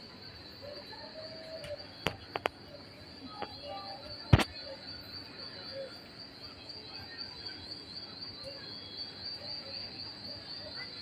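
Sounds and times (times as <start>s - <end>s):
murmur of distant shoppers: 0.0s - 11.0s.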